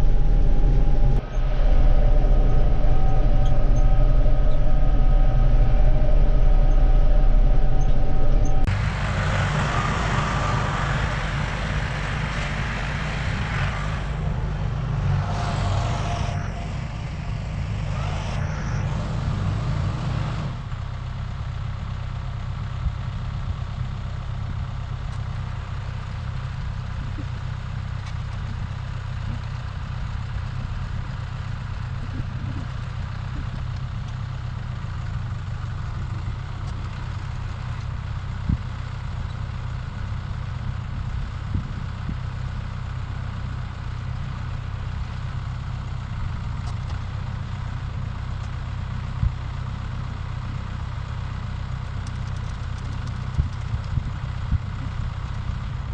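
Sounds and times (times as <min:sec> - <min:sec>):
vehicle engine idling: 0:00.0 - 0:55.9.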